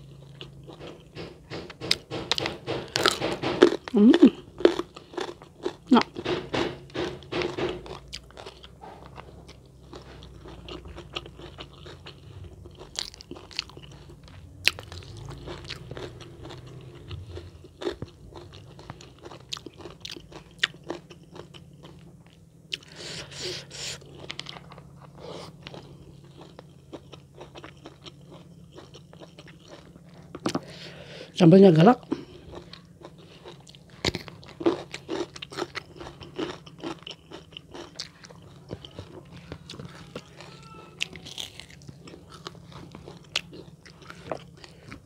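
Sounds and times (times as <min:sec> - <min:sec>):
person chewing and crunching food: 0:00.0 - 0:45.0.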